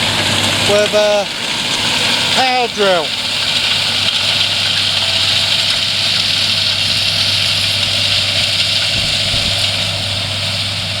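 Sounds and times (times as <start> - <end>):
tractor engine hum: 0.0 - 11.0.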